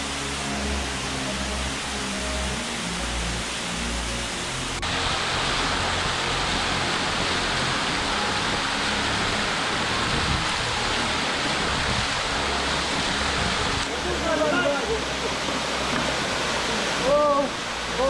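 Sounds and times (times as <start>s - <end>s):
waterfall rushing onto stones: 0.0s - 18.0s.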